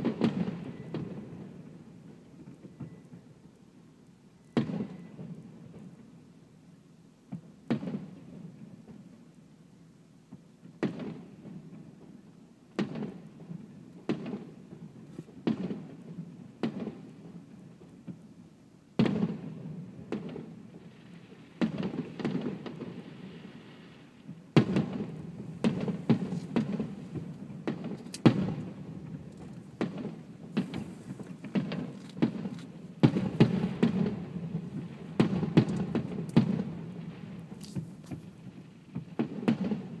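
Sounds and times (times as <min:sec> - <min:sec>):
firework bangs with echoing rumble: 0:00.0 - 0:03.4, 0:04.5 - 0:06.1, 0:07.3 - 0:09.2, 0:10.3 - 0:18.3, 0:18.9 - 0:40.0.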